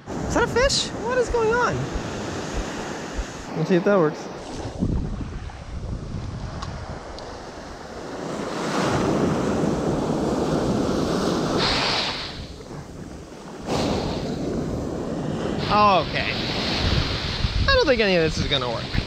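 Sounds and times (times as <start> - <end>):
ocean waves breaking: 0.0 - 19.0
wind buffeting microphone: 0.0 - 19.0.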